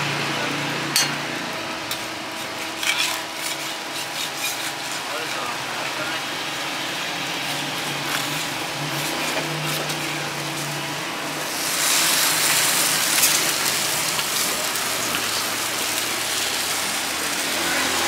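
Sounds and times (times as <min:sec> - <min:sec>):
food sizzling in hot oil: 0:00.1 - 0:18.0.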